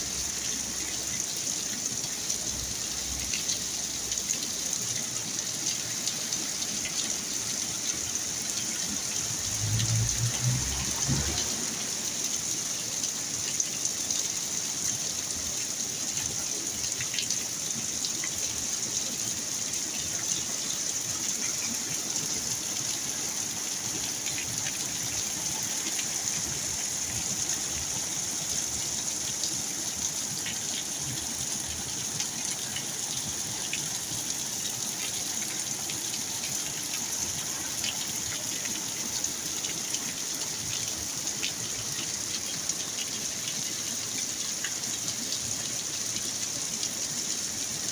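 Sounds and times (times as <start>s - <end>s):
heavy rain pouring: 0.0s - 47.9s
water gushing: 0.0s - 47.9s.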